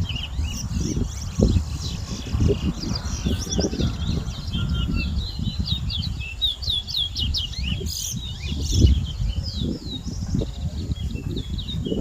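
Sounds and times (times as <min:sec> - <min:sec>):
finch singing whistled notes: 0:00.0 - 0:12.0.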